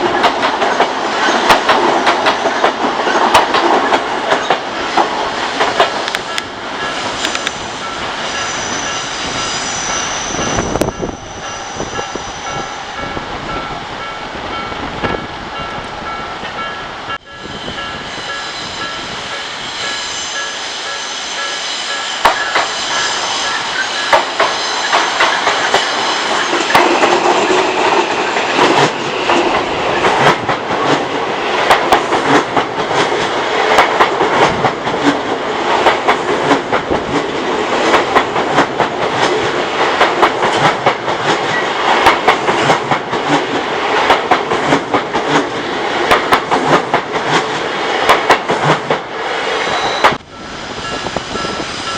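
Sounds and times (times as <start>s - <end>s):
train wheels clacking: 0.0s - 51.9s.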